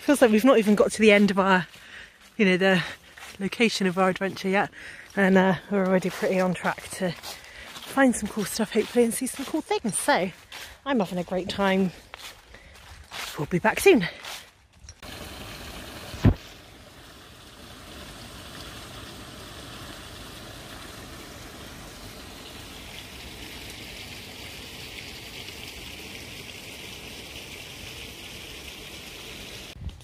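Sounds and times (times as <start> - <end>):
brook water trickling: 0.0 - 29.8.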